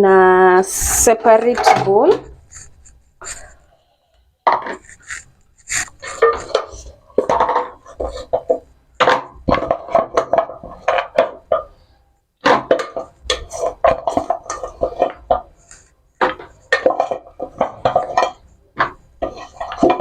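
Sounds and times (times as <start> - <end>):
pots and utensils clattering: 1.2 - 3.6, 4.5 - 11.8, 12.4 - 20.0.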